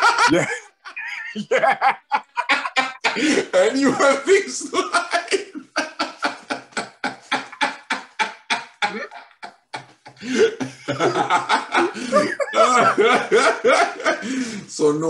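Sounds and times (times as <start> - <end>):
men laughing: 0.0 - 14.7.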